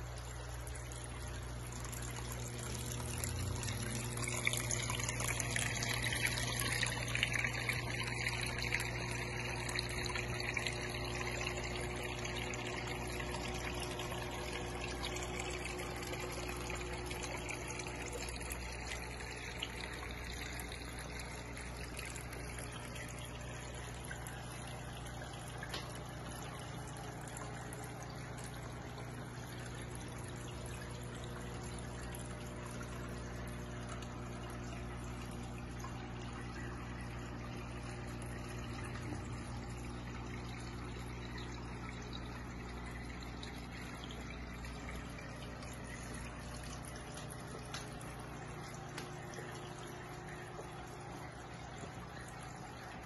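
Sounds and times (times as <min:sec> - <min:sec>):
aquarium pump hum: 0:00.0 - 0:53.0
water trickling and splashing: 0:00.0 - 0:53.0.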